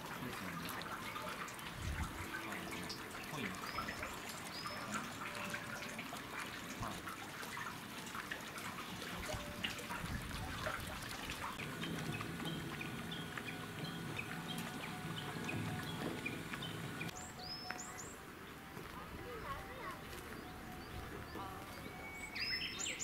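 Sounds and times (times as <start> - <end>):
water drips and splashes: 0.0 - 23.0
water trickling: 0.0 - 23.0.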